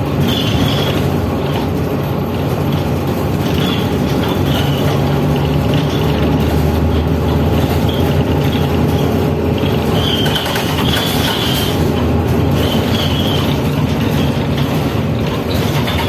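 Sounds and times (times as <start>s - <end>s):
bus engine running: 0.0s - 16.0s
road and body noise: 0.0s - 16.0s.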